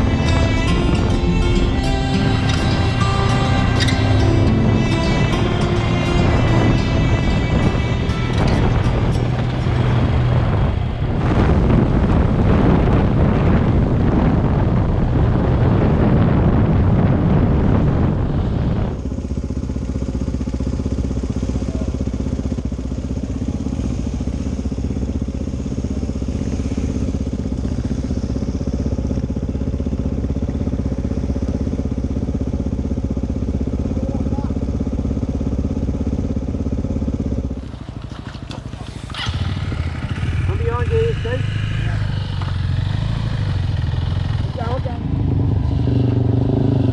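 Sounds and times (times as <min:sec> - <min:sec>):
motorcycle engine idling: 0:00.0 - 0:15.3, 0:18.0 - 0:46.9
motorcycle engine and road noise: 0:00.0 - 0:46.9.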